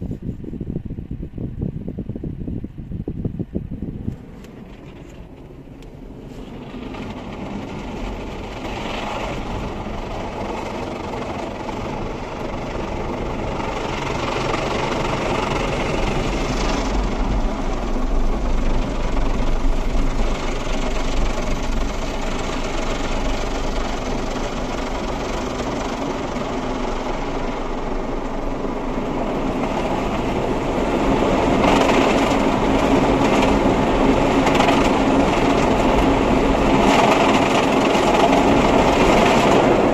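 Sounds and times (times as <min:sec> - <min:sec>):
car wash brushes and water spray: 0:04.0 - 0:39.9.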